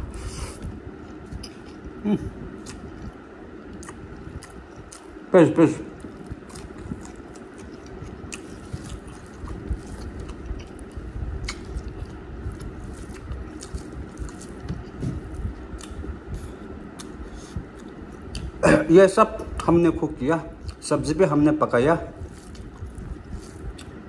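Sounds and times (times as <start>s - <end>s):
person chewing: 0.0s - 5.2s, 6.0s - 18.6s, 22.2s - 24.0s.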